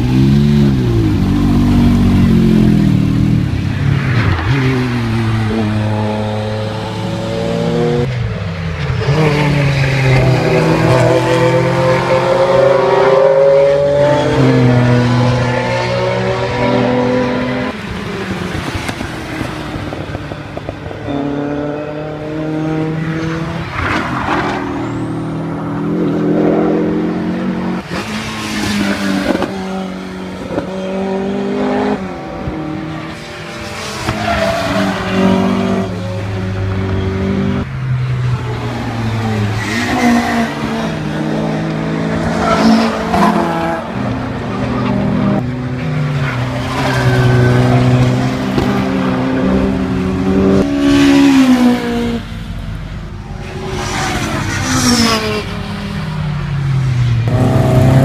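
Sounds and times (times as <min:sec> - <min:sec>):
rally car engines revving past: 0:00.0 - 0:58.0.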